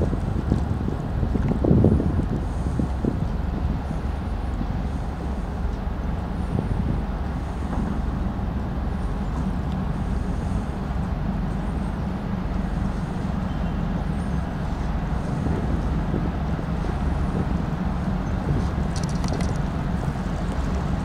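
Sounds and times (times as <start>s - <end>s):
ship diesel engines droning: 0.0s - 21.0s.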